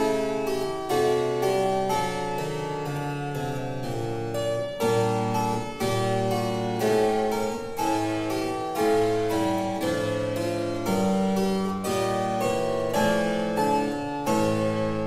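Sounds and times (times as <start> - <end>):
slow keyboard music: 0.0 - 15.0.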